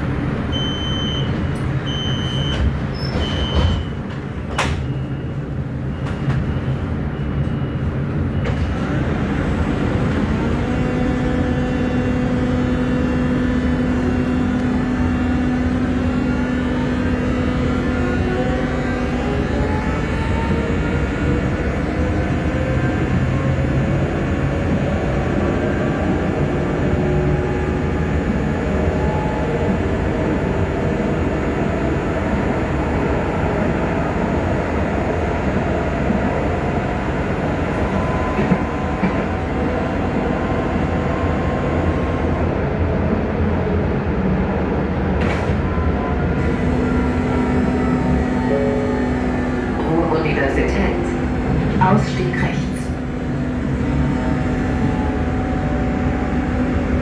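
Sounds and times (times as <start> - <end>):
tram wheels rumbling: 0.0 - 57.0.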